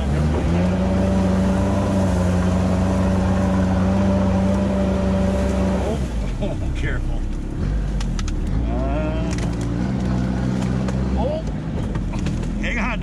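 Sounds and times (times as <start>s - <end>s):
vehicle driving over grass and brush: 0.0s - 13.0s.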